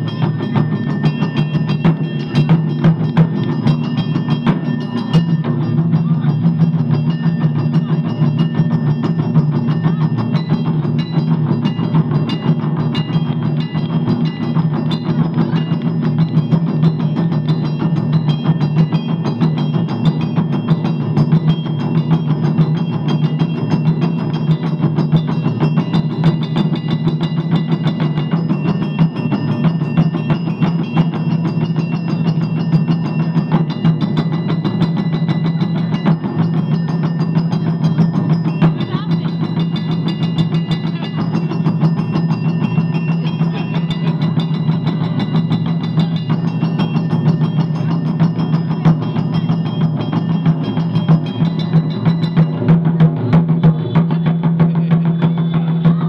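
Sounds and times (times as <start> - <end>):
taiko drums struck with sticks: 0.0 - 56.0.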